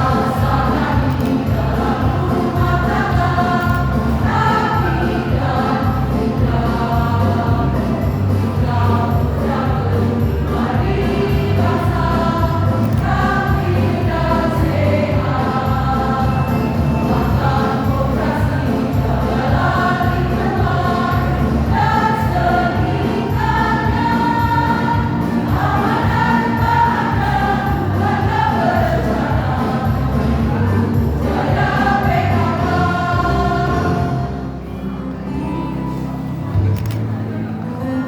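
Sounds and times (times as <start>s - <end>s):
choir singing in parts: 0.0s - 34.6s
low musical accompaniment: 0.0s - 38.0s.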